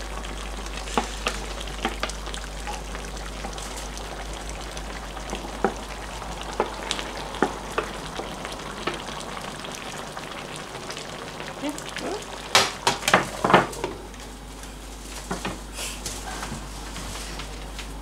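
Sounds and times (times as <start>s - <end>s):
pan sizzling: 0.0s - 15.7s.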